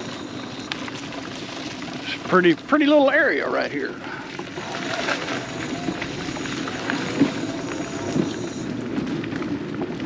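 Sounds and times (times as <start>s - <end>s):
scooter tyres crunching leaves: 0.0s - 10.0s.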